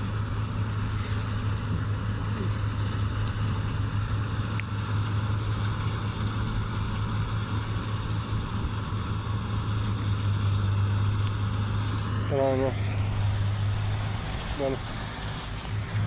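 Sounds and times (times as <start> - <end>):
harvester engine humming: 0.0 - 16.0.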